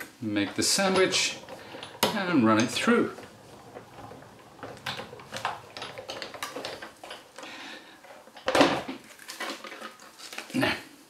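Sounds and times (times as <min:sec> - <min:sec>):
hand-cranked machine clicks and creaks: 0:00.3 - 0:10.1.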